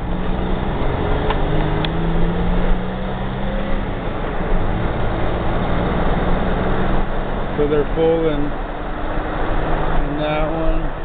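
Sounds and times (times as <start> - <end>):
car engine and tyre hum: 0.0 - 11.0.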